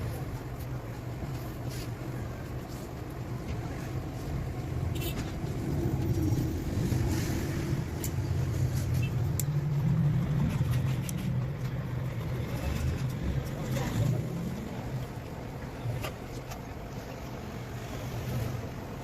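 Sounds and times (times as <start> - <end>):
low motor rumble: 0.0 - 19.0.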